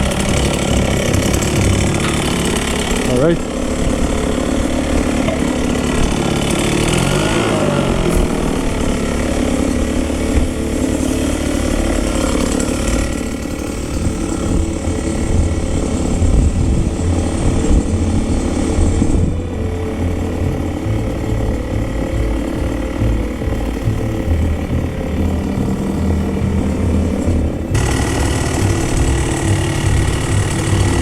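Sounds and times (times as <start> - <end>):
machine running with a rattle: 0.0 - 31.0.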